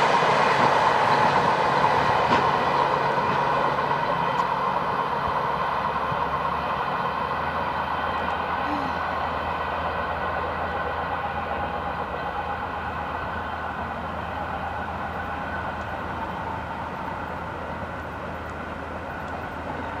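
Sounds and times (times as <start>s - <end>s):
diesel train engines droning: 0.0s - 20.0s.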